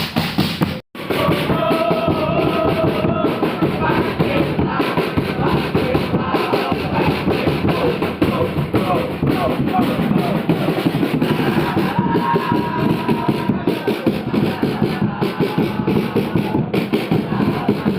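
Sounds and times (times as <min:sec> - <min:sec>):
drums beating: 0:00.0 - 0:17.9
crowd chanting: 0:01.0 - 0:17.9.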